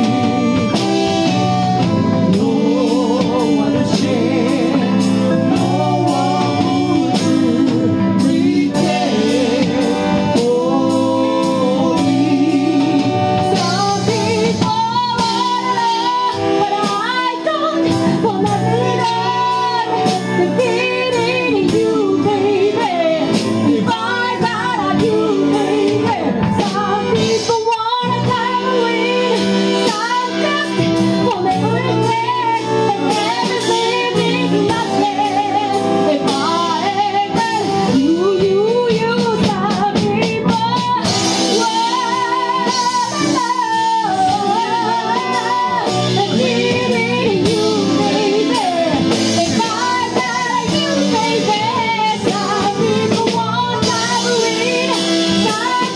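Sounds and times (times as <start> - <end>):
live band playing: 0.0 - 55.9
woman singing: 0.0 - 55.9.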